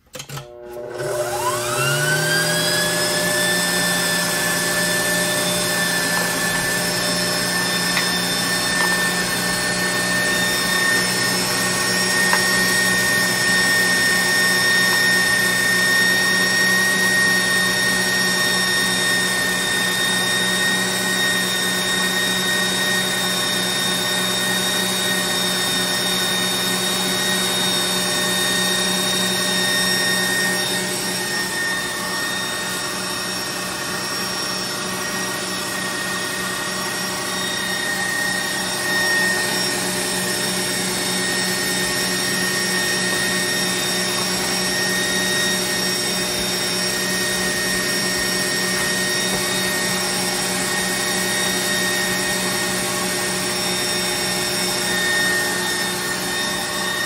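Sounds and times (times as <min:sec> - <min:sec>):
stand mixer motor whine: 0:00.0 - 0:57.0.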